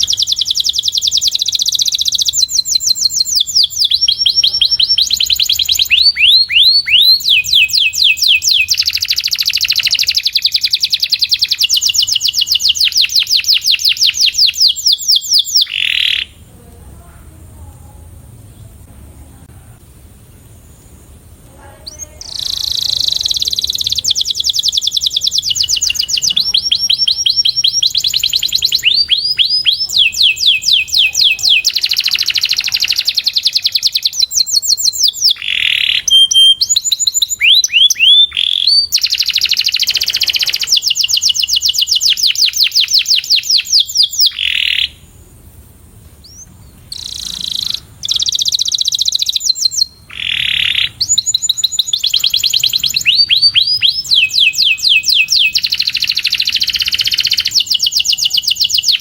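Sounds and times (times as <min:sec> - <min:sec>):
canary singing trills: 0:00.0 - 0:16.5, 0:20.3 - 0:45.2, 0:46.2 - 0:59.0.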